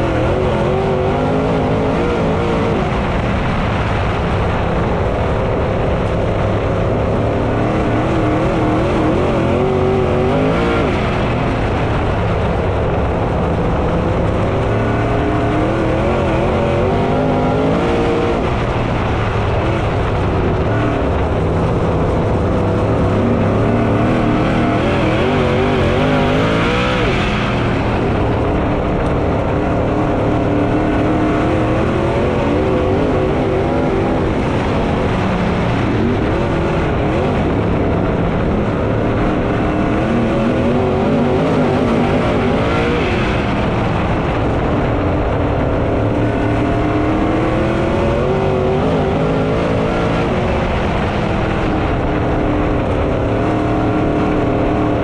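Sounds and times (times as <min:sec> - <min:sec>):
race car engines running hard: 0:00.0 - 0:55.0.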